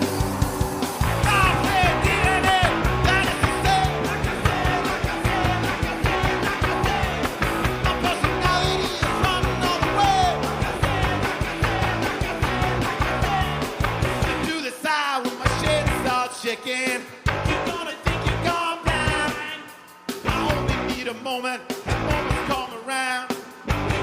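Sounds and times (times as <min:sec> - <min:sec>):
rock band playing: 0:00.0 - 0:24.0
shouted lead vocal: 0:01.0 - 0:24.0.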